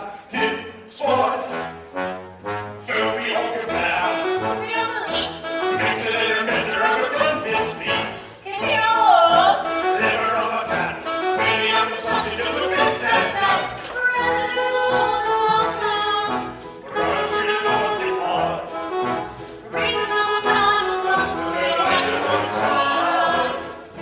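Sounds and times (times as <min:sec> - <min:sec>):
chorus singing: 0:00.0 - 0:24.0
orchestra playing: 0:00.0 - 0:24.0.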